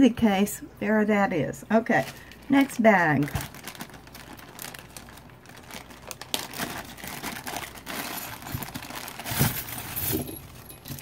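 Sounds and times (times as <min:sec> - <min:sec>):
plastic bag crinkling: 0:01.8 - 0:11.0.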